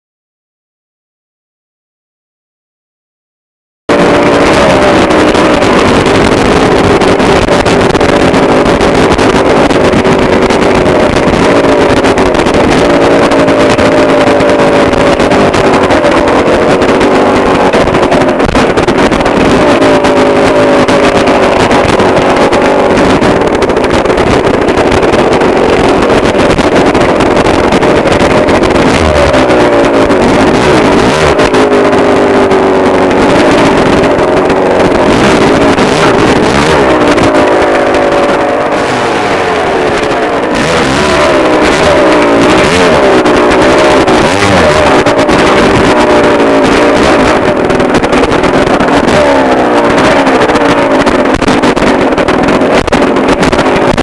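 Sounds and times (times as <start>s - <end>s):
dirt bike engine revving: 3.9s - 54.0s
wind noise on microphone: 3.9s - 54.0s.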